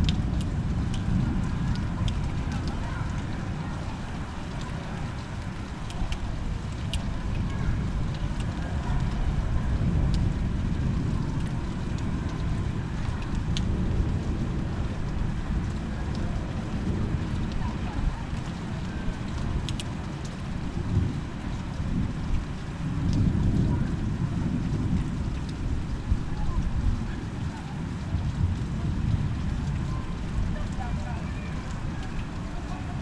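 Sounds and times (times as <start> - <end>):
raindrops ticking: 0.0 - 33.0
thunder rumble: 0.0 - 33.0.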